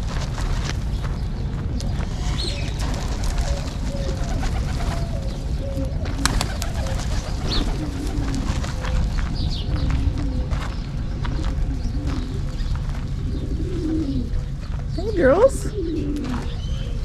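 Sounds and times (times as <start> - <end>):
low rumble: 0.0 - 14.8
doves cooing: 1.8 - 14.5, 15.1 - 17.0.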